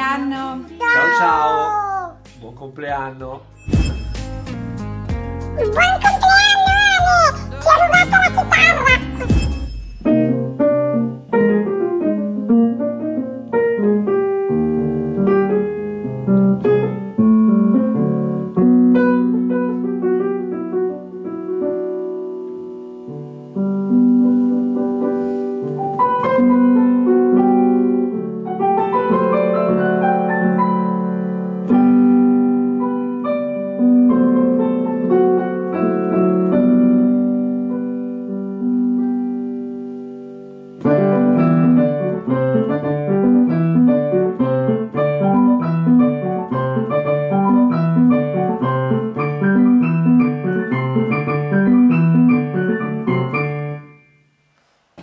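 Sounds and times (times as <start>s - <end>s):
solo piano melody: 3.5s - 54.5s.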